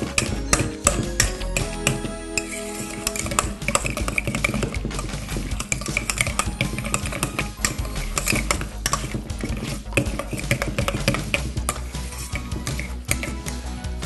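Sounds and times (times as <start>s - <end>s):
masher clinking against metal bowl: 0.0s - 13.6s
background music: 0.0s - 14.0s.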